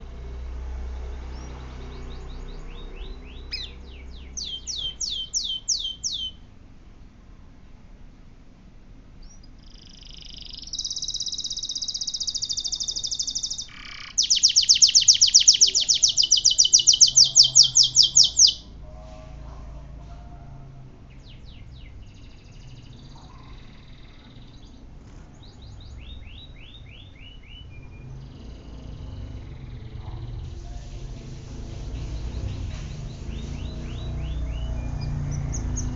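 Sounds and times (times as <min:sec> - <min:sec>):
canary singing trills: 0:00.0 - 0:06.5, 0:09.2 - 0:20.4, 0:21.0 - 0:35.9.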